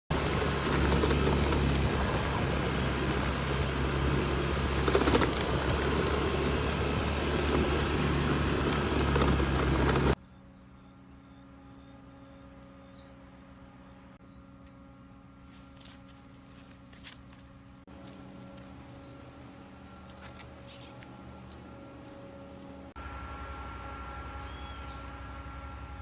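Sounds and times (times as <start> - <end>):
motor humming: 0.1 - 26.0.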